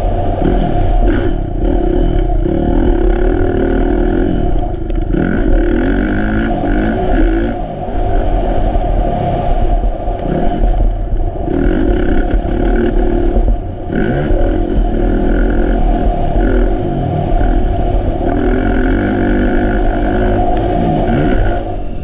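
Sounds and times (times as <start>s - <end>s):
motocross bike engine revving: 0.0s - 8.6s, 10.2s - 22.0s.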